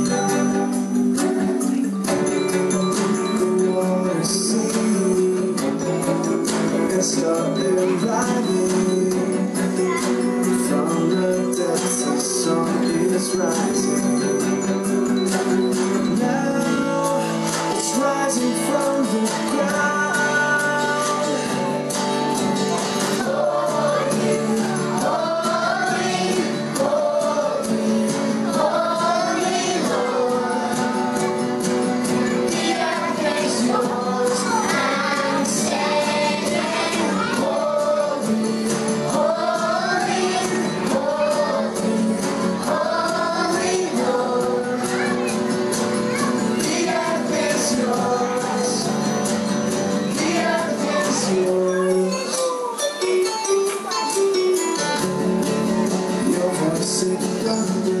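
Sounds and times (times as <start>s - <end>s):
people singing live: 0.0s - 22.0s, 22.6s - 45.4s, 46.5s - 52.8s
instrumental backing: 0.0s - 58.0s.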